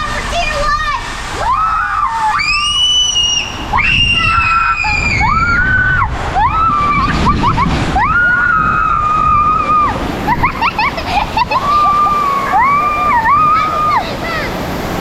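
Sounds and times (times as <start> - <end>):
water splashing: 0.0 - 15.0
people shrieking and screaming: 1.3 - 14.6.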